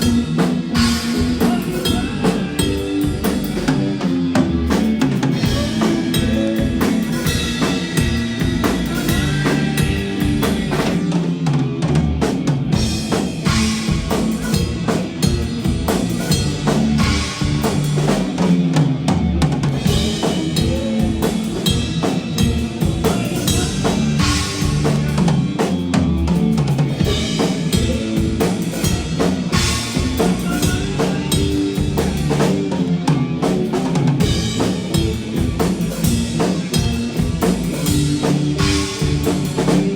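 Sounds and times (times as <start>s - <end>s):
bass drum and snare beat: 0.0s - 11.0s, 12.7s - 18.4s, 19.5s - 32.6s, 34.0s - 39.9s
live band playing loud music: 0.0s - 39.9s.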